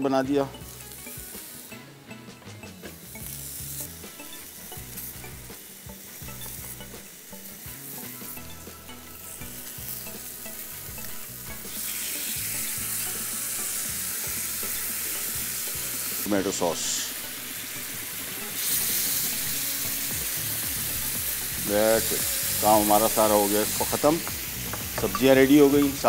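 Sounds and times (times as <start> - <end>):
meat sizzling on hot plate: 0.5 - 1.8, 2.7 - 26.0.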